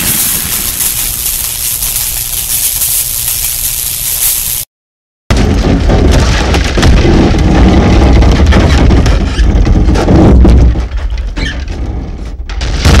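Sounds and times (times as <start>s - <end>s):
dense crackling: 0.0s - 4.7s, 5.3s - 11.1s.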